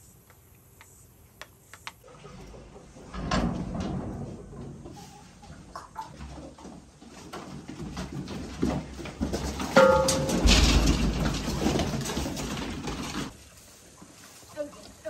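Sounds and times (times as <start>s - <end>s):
sheep rustling and shuffling: 2.0s - 15.0s.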